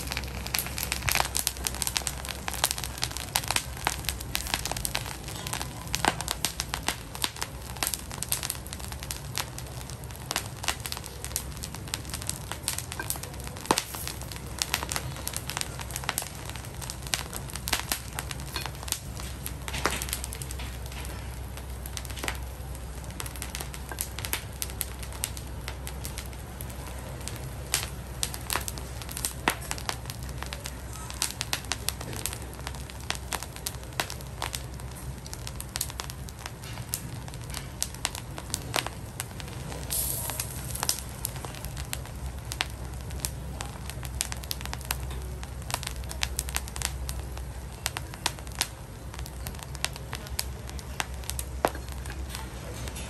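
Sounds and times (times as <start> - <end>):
salt crackling in hot wok: 0.0 - 53.0.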